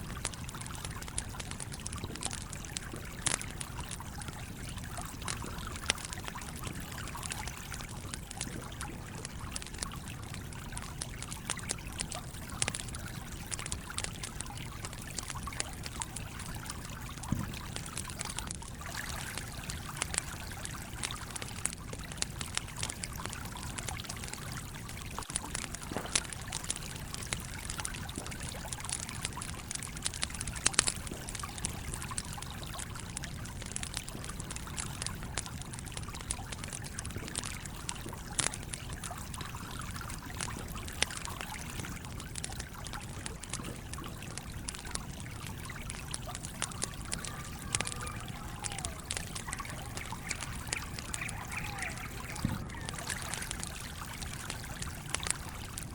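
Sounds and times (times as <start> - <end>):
campfire crackling and popping: 0.0 - 55.9
stream trickling: 0.0 - 55.9.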